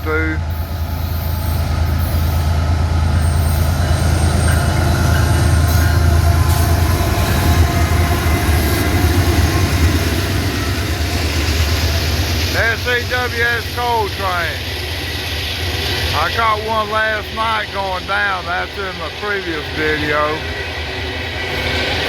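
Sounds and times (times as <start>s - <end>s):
diesel locomotive engines droning: 0.0s - 22.0s
train wheels rolling on rails: 0.0s - 22.0s.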